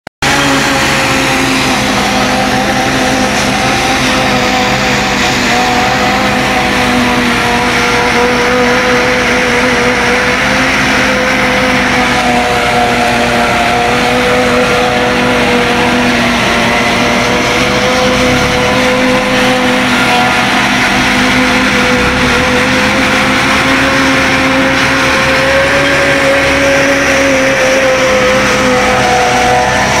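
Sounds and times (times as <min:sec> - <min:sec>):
forage harvester machine drone: 0:00.2 - 0:30.0.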